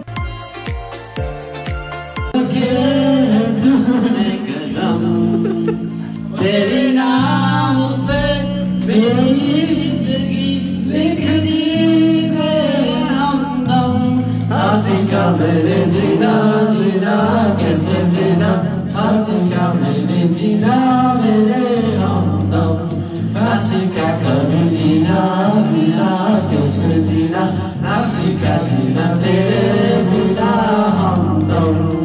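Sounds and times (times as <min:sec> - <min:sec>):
man singing into microphone: 0:02.3 - 0:32.0.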